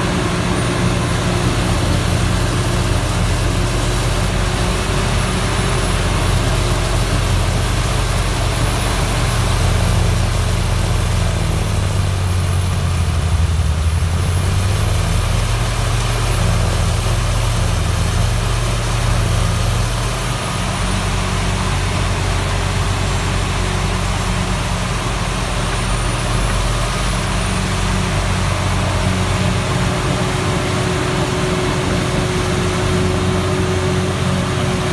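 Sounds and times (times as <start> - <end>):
heavy engine drone: 0.0 - 34.9.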